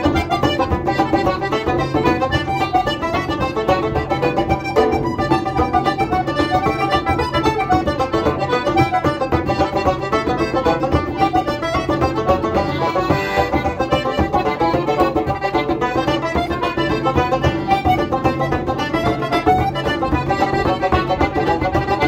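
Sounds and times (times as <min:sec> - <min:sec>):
banjo: 0:00.0 - 0:22.0
frame drum beating: 0:00.0 - 0:22.0
piano accordion: 0:00.0 - 0:22.0.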